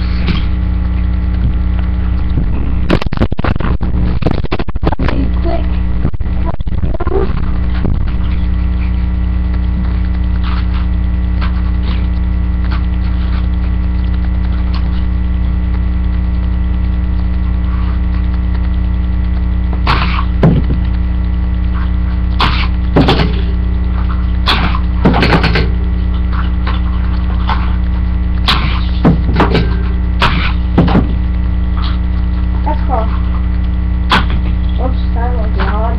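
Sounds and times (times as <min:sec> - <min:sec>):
electrical hum: 0:00.0 - 0:35.9.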